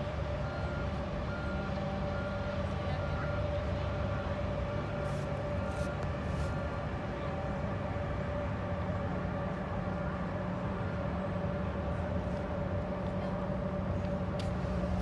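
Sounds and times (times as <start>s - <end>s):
ship engines droning: 0.0s - 15.0s.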